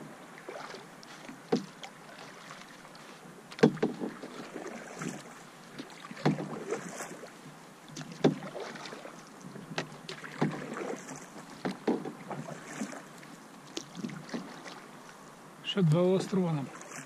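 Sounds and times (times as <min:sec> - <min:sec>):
paddle splashing in water: 0:00.0 - 0:15.2, 0:16.6 - 0:17.0.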